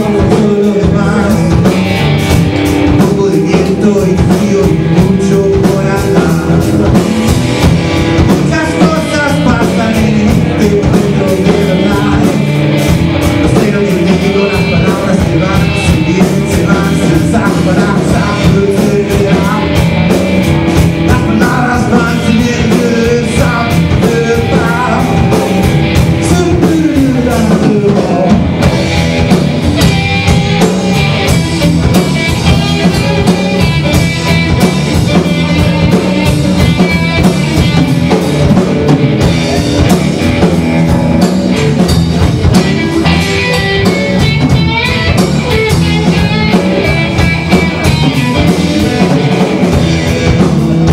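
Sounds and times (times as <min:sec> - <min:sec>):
bass guitar: 0:00.0 - 0:50.9
drum kit steady beat: 0:00.0 - 0:50.9
electric guitar: 0:00.0 - 0:50.9.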